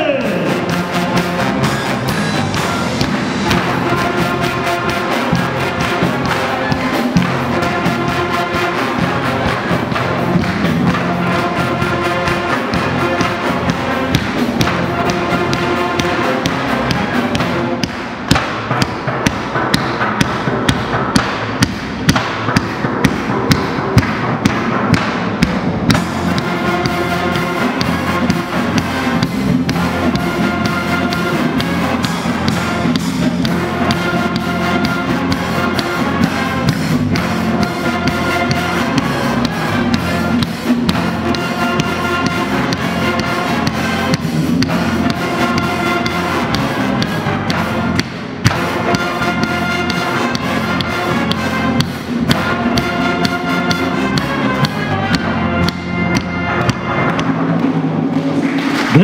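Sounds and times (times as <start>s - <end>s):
brass band playing: 0.0s - 59.0s
sharp knocking beat: 0.0s - 59.0s.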